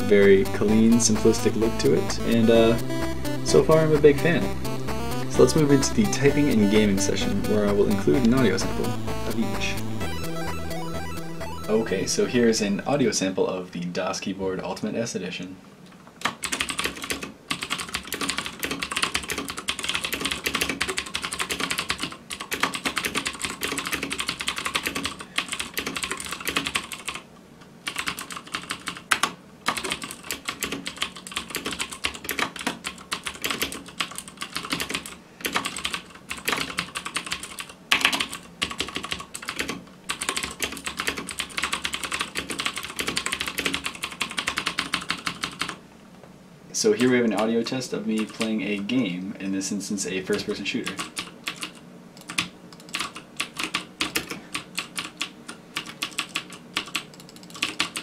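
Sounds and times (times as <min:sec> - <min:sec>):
fast mechanical keyboard typing: 0:00.0 - 0:02.9, 0:03.5 - 0:10.2, 0:16.2 - 0:45.8, 0:48.1 - 0:48.6, 0:50.3 - 0:58.0.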